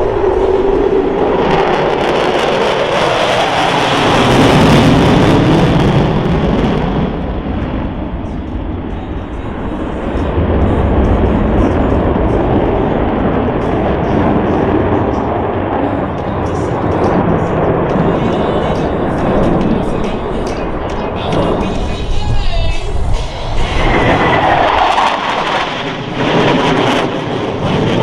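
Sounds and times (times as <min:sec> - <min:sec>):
jets passing by: 0:00.0 - 0:28.0.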